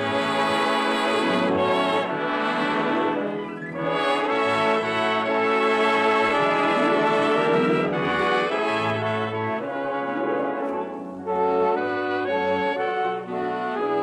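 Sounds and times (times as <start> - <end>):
brass-led orchestral music: 0.0 - 14.0.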